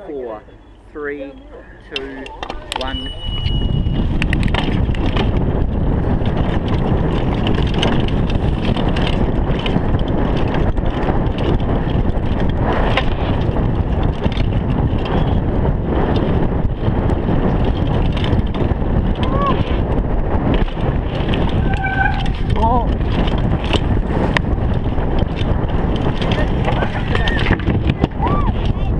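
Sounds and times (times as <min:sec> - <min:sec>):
wind rushing on microphone: 0:00.3 - 0:28.9
bike tyre noise: 0:00.7 - 0:28.9
bike knocking and rattling: 0:01.8 - 0:28.9.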